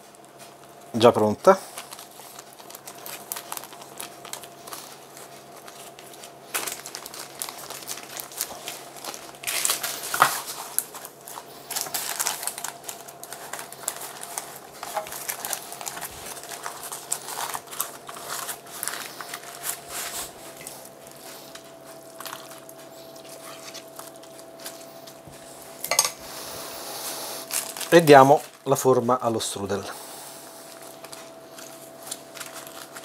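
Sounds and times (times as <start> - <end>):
baking paper crinkling: 0.0 - 33.0.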